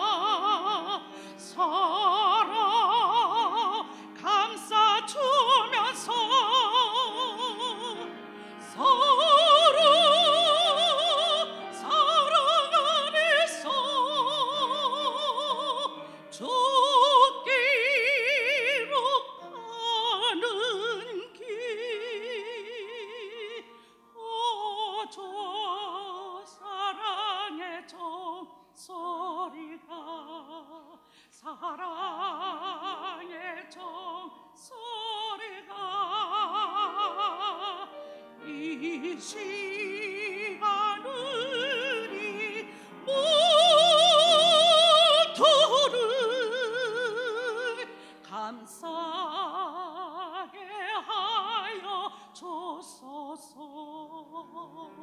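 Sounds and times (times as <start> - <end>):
woman singing operatically: 0.0 - 55.0.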